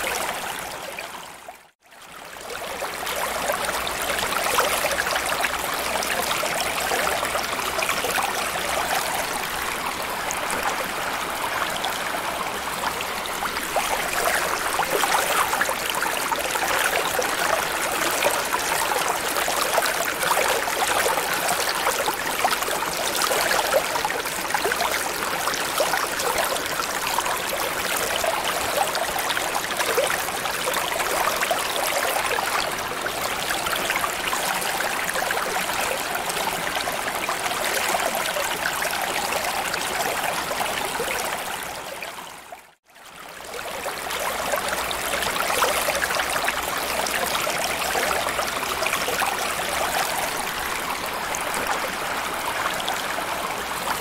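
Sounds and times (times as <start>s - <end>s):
bubbling flowing water: 2.2s - 54.0s.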